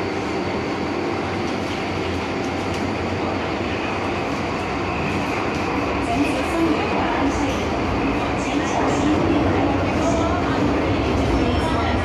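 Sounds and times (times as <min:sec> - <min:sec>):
electric train running on track: 0:00.0 - 0:12.0.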